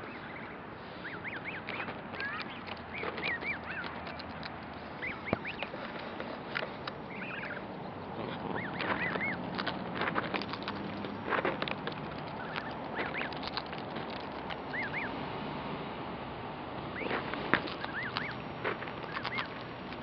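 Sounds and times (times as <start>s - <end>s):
goslings peeping: 0.0s - 15.5s, 16.7s - 20.0s.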